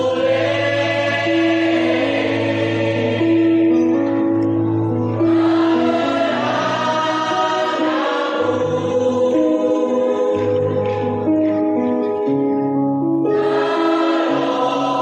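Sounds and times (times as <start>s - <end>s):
children's choir singing in harmony: 0.0s - 12.3s, 13.2s - 15.0s.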